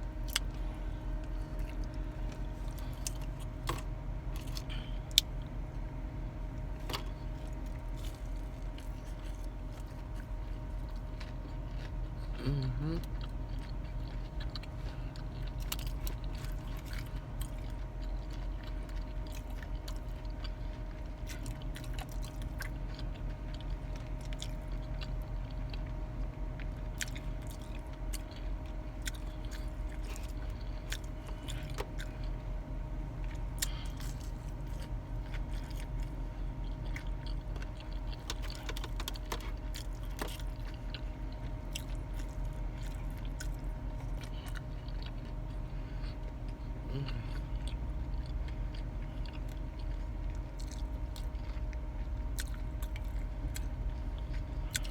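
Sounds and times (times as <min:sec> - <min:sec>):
chewing and crunching food: 0:00.0 - 0:54.9
steady low hum: 0:00.0 - 0:54.9.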